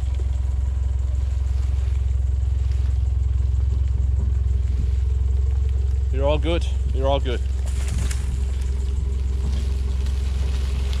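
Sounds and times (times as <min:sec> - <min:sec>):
engine idling low rumble: 0:00.0 - 0:11.0.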